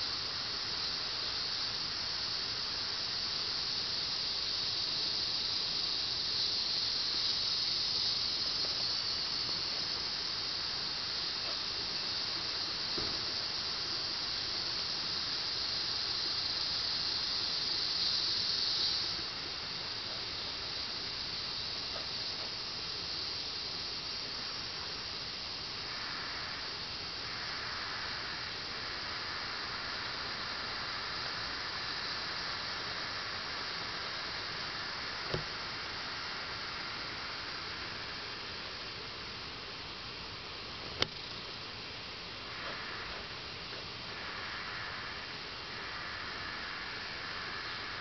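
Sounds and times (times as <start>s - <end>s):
insect chorus: 0.0s - 48.0s
steady hiss: 0.0s - 48.0s.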